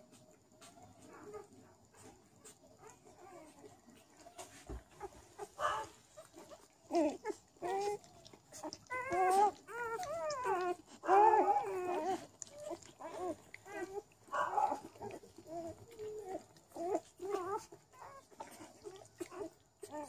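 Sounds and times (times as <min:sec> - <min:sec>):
puppies squeaking and crying: 0:02.7 - 0:20.0.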